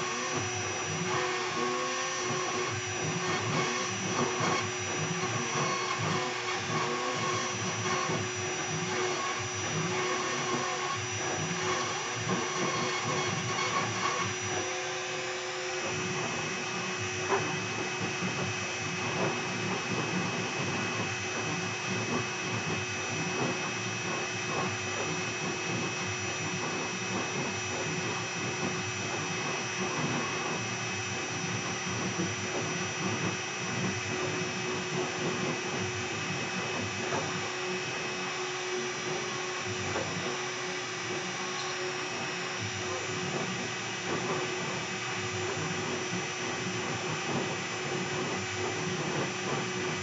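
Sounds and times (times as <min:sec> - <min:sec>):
router spindle whine: 0:00.0 - 0:50.0.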